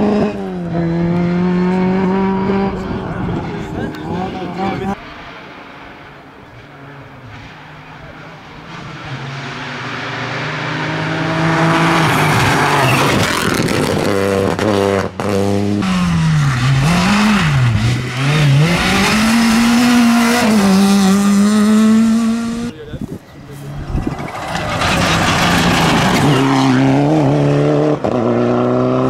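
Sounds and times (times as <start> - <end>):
rally car engines at full throttle: 0.0 - 29.0.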